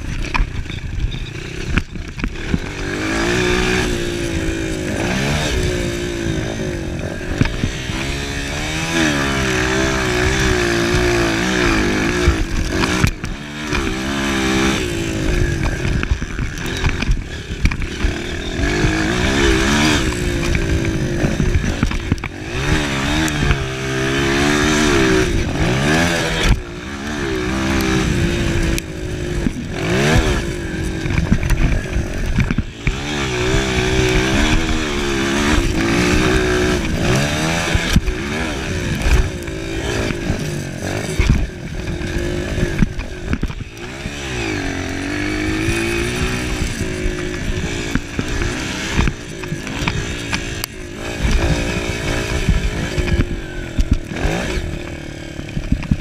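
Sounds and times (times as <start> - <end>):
dirt bike engine revving: 0.0 - 56.0
knocks and rattles over bumps: 0.0 - 56.0.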